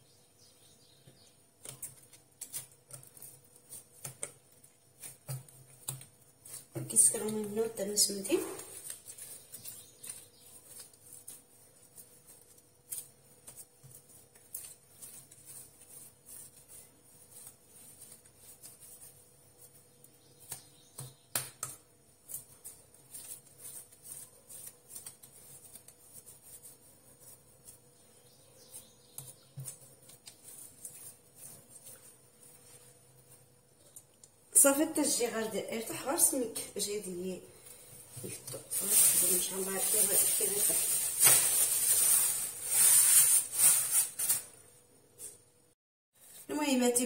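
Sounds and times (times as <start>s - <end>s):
hands shaping dough: 0.3s - 44.6s.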